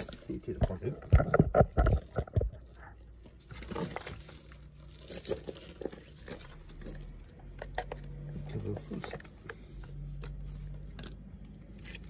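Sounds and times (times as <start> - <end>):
handling knocks and crunches: 0.0 - 11.3.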